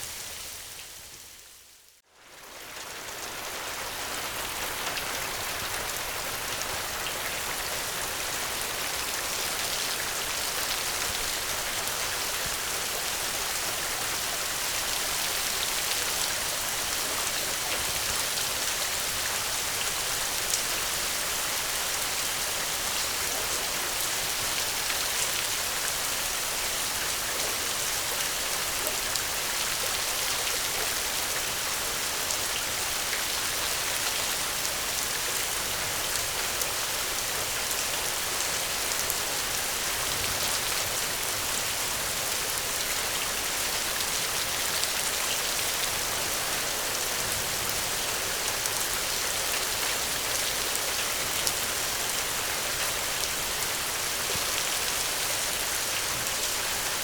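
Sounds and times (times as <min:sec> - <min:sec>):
heavy rain pattering: 0:02.2 - 0:57.0.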